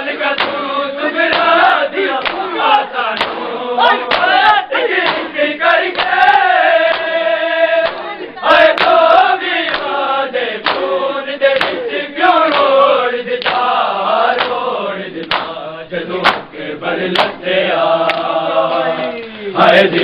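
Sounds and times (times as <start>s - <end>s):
men chanting in unison: 0.0s - 20.0s
hands slapping chests: 0.3s - 6.3s, 6.9s - 7.2s, 7.8s - 14.6s, 15.2s - 15.6s, 16.2s - 17.4s, 18.0s - 19.4s.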